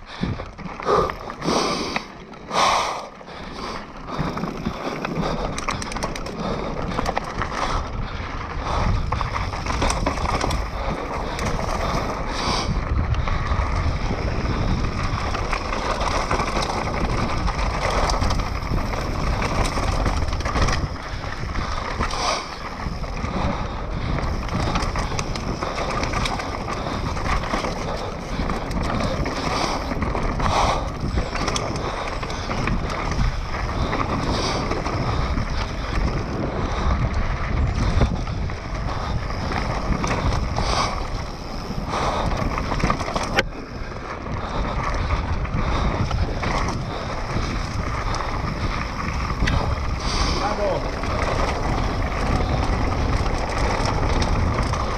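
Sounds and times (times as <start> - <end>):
bike tyres rolling over dirt: 0.0 - 54.9
wind rumble on microphone: 0.0 - 54.9
bike clattering over bumps: 3.3 - 54.9.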